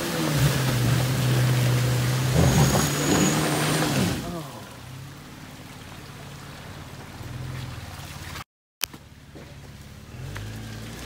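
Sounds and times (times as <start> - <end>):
tyres churning through mud: 0.0 - 8.4, 9.0 - 11.0
truck engine at low revs: 0.0 - 11.0.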